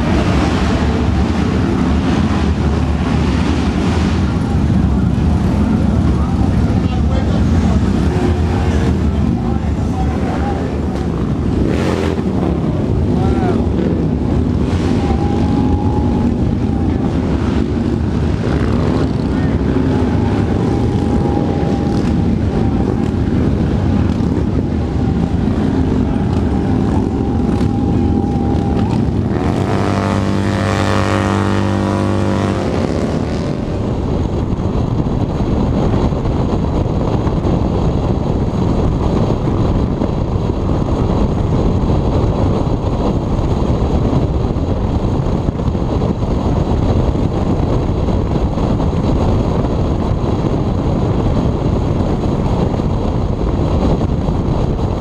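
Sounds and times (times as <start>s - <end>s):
motorcycle engine: 0.0s - 55.0s
wind rushing over microphone: 0.0s - 55.0s.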